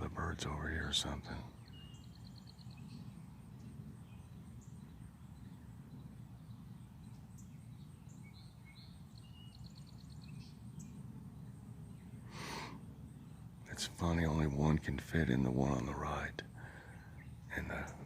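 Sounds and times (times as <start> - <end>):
low background rumble: 0.0 - 18.0
songbird chirps and trill: 0.0 - 18.0.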